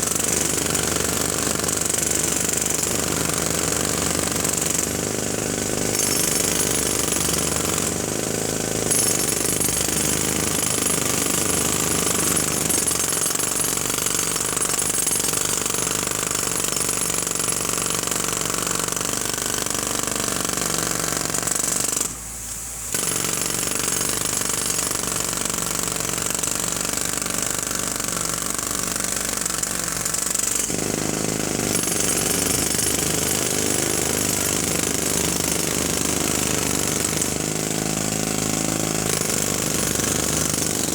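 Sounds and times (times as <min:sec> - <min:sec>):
jackhammer running: 0:00.0 - 0:22.2, 0:22.9 - 0:40.9.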